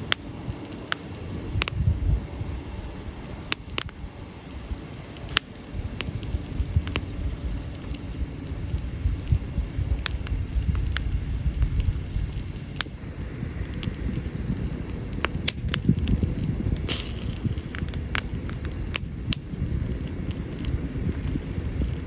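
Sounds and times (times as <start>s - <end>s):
campfire flames rumbling: 0.0s - 22.0s
fire crackles and pops: 0.0s - 22.0s.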